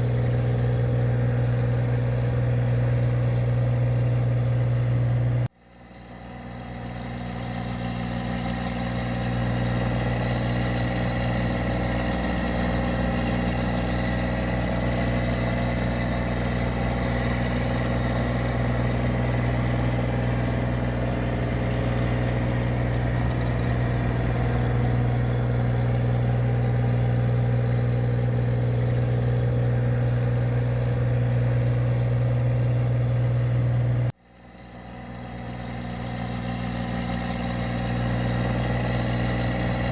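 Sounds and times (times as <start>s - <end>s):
machine engine droning: 0.0s - 5.5s, 6.2s - 39.9s.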